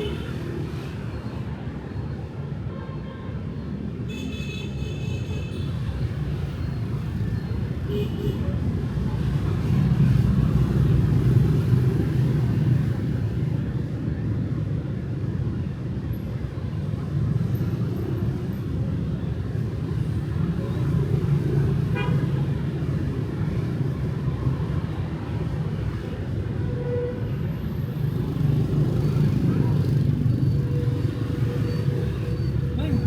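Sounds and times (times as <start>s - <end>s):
traffic of motorbikes and cars: 0.0s - 33.0s.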